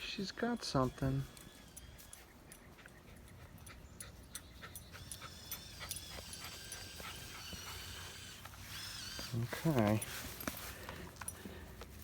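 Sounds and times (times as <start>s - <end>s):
faint clicks and rustles: 1.3s - 12.0s.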